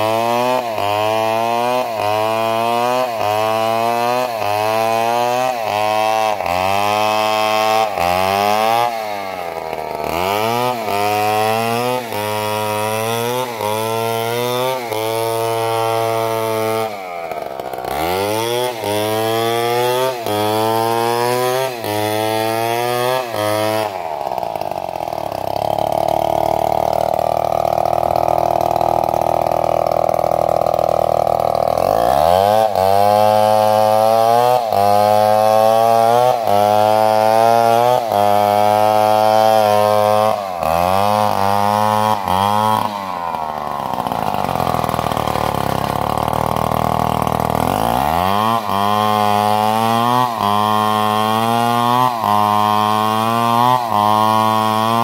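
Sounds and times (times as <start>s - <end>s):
chainsaw cutting through trunk: 0.0s - 55.0s.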